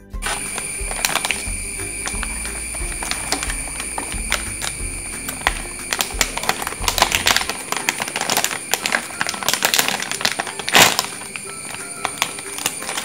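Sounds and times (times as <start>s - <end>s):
plastic bag crinkling: 0.2s - 13.0s.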